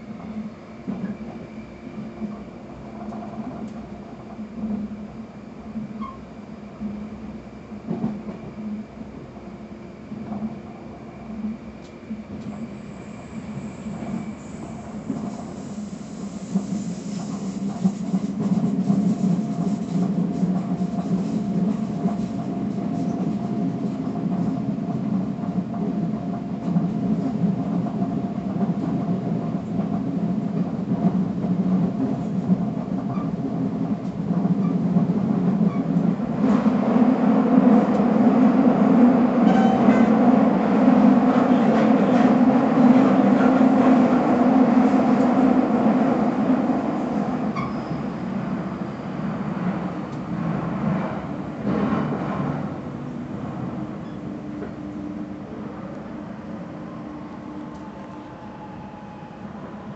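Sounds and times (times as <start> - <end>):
electric train rumbling inside: 0.0 - 59.9.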